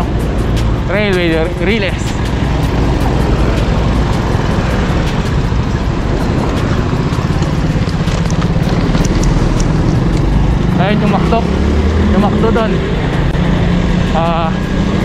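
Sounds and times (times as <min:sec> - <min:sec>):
vehicle engine humming: 0:00.0 - 0:15.0
wind rush and road noise: 0:00.0 - 0:15.0.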